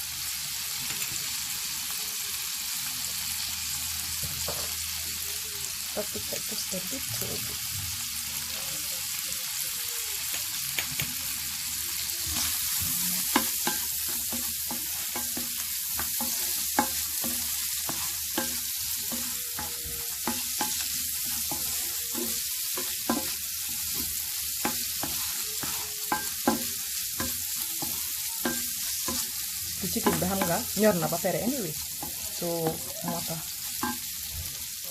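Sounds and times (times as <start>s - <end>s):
chicken sizzling in a frying pan: 0.0s - 34.9s.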